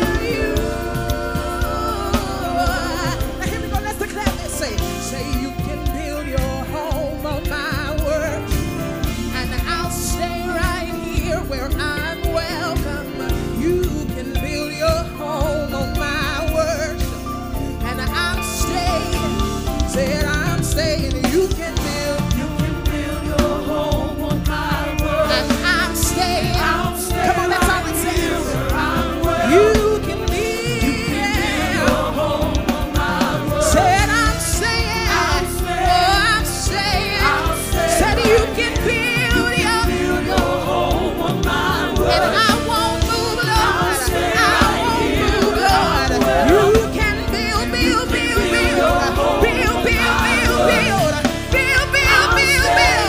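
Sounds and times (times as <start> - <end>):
backing singers: 0.0 - 14.2, 17.8 - 53.0
band with steady beat: 0.0 - 53.0
woman singing lead vocals: 0.0 - 53.0.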